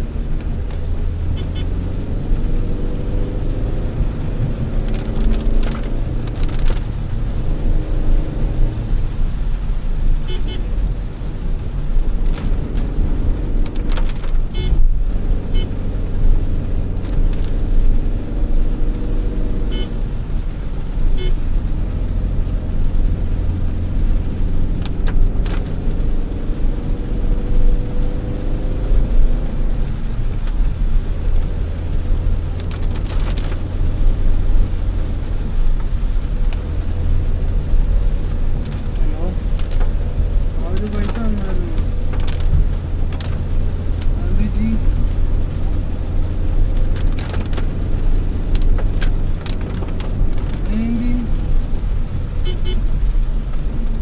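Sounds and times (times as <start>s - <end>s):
car engine running: 0.0s - 54.0s
road rumble: 0.0s - 54.0s.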